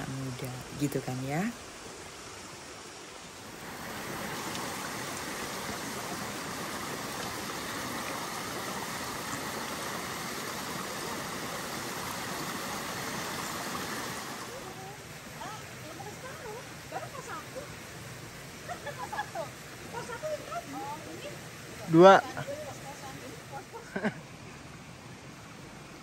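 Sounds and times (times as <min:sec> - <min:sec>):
stream flowing water: 0:00.0 - 0:26.0.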